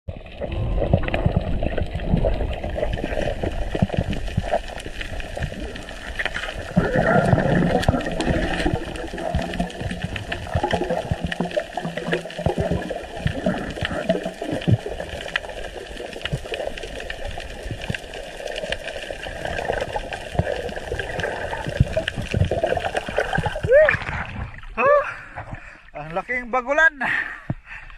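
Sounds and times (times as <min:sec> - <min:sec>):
sharp underwater clicks and crackles: 0:00.1 - 0:26.3.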